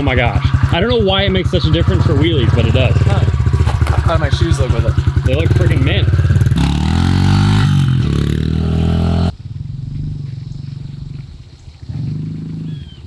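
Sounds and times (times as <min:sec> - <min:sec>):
pit bike engine revving: 0:00.0 - 0:11.2.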